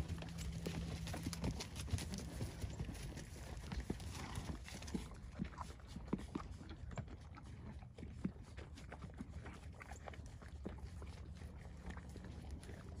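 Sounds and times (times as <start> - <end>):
horses crunching grain: 0.0 - 13.0.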